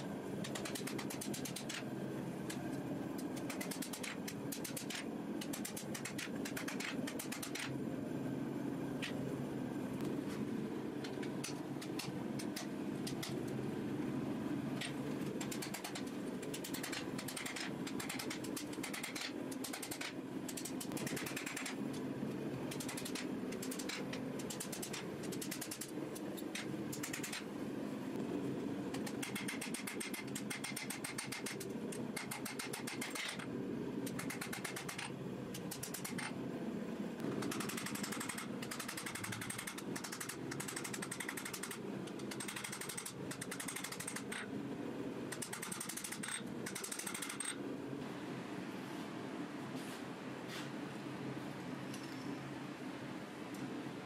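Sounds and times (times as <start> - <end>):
steady low forge roar: 0.0 - 47.0
steady low hum: 0.0 - 54.0.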